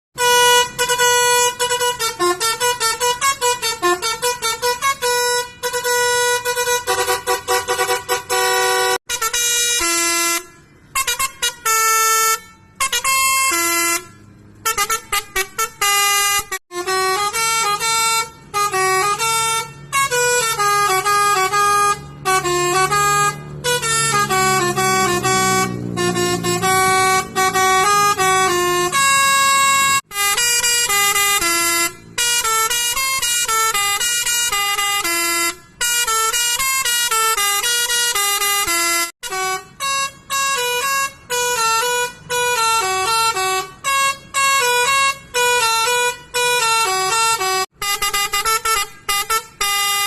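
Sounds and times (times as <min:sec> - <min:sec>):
musical bus horns: 0:00.2 - 0:50.0.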